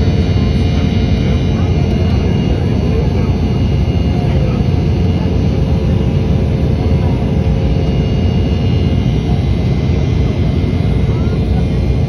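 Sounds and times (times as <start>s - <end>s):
faint steady tones: 0.0s - 12.0s
jet engines roaring: 0.0s - 12.0s.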